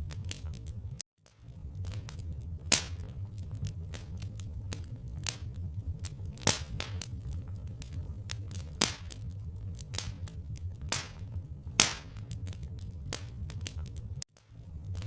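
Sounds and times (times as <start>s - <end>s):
steady low rumble: 0.0s - 15.0s
wood fire crackling: 0.0s - 15.0s.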